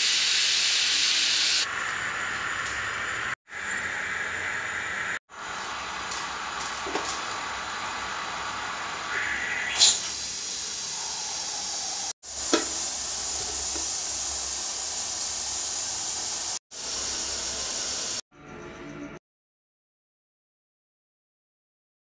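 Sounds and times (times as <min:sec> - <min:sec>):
steam hissing from pressure cooker: 0:00.0 - 0:18.2.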